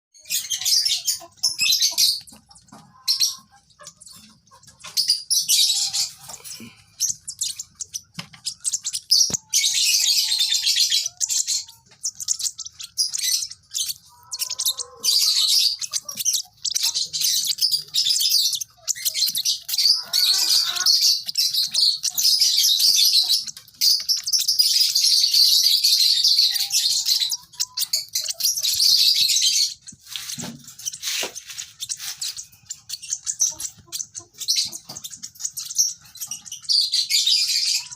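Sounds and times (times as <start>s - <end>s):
lovebirds chirping: 0.2s - 37.9s.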